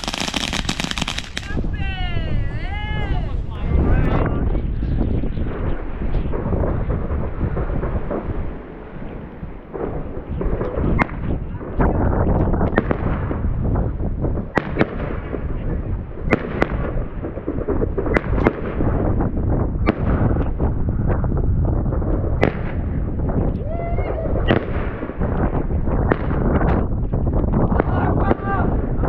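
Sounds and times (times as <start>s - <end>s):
fireworks sharp cracks: 0.0s - 1.8s, 5.5s - 23.5s, 24.3s - 28.9s
fireworks rumbling bangs: 0.0s - 29.0s.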